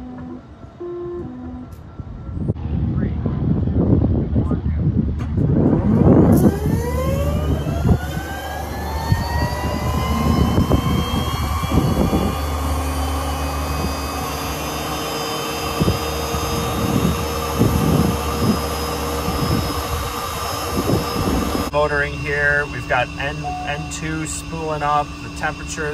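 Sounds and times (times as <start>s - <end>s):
jet engine whine: 0.0s - 25.9s
low hum: 0.0s - 25.9s.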